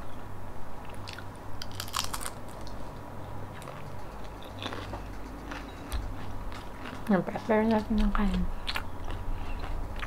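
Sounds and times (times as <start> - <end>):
low electrical hum: 0.0 - 10.0
crunchy chewing: 0.8 - 10.0.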